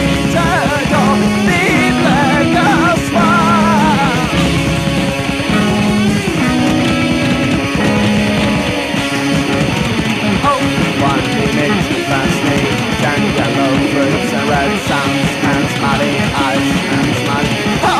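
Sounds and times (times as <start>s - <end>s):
bent guitar notes: 0.0s - 17.9s
instrumental rock music: 0.0s - 17.9s.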